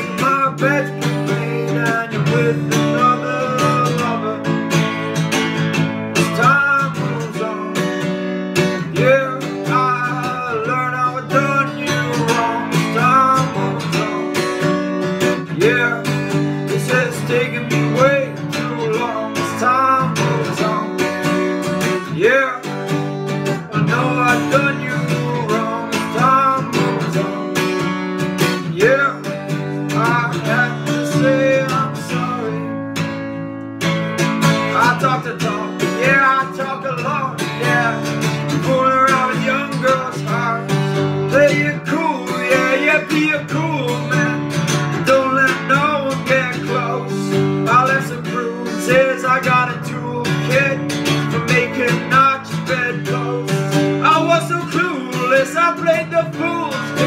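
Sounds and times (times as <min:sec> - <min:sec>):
person singing: 0:00.0 - 0:33.2, 0:34.3 - 0:57.0
acoustic guitar strumming: 0:00.0 - 0:57.0.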